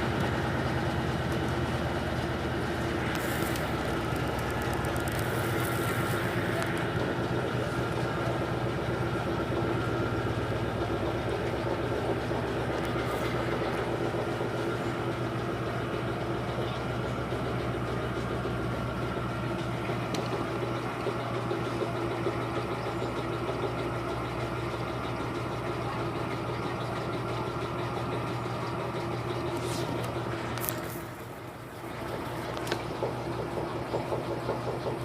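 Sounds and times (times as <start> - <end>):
washing machine running: 0.0 - 35.0.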